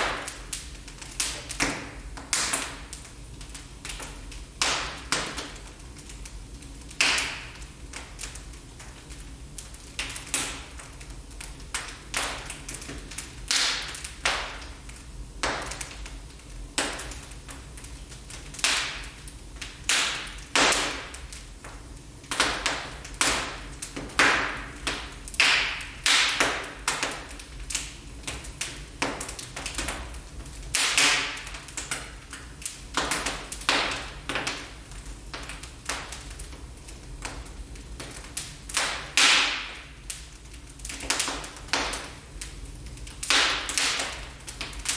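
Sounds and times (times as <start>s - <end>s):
wood fire crackling in fireplace: 0.0s - 44.9s.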